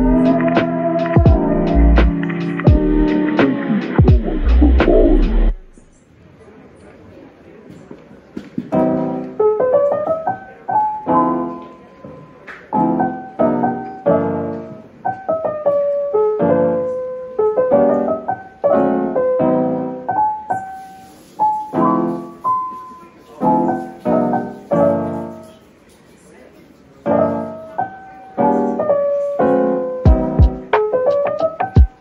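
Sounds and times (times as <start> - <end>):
piano music: 0.0 - 5.9, 8.7 - 32.0.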